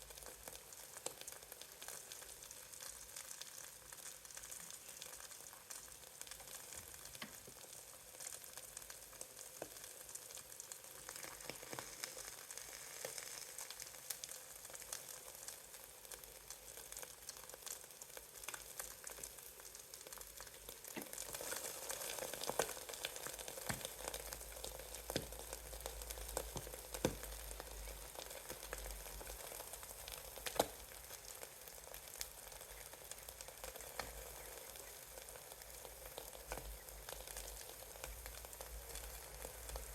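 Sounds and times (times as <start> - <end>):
eggs sizzling in a pan: 0.0 - 39.9
pops and crackles: 2.9 - 8.4, 10.8 - 15.8, 16.5 - 39.9.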